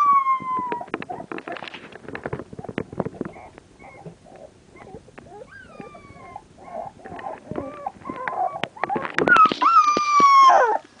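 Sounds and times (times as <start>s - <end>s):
puppy high whine: 0.0s - 1.5s, 3.3s - 11.0s
puppies whimpering and squeaking: 0.0s - 1.8s, 2.5s - 11.0s.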